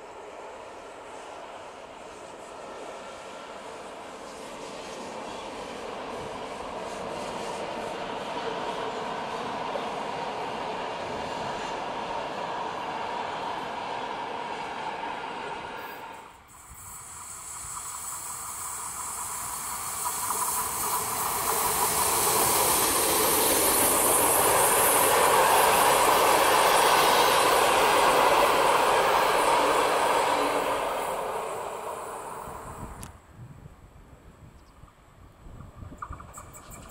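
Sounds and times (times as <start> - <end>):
train wheels rumbling on rails: 0.0 - 33.2, 34.8 - 36.9.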